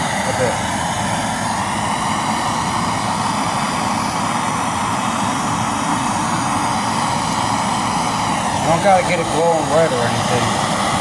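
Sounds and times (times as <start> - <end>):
blowtorch flame roaring: 0.0 - 11.0.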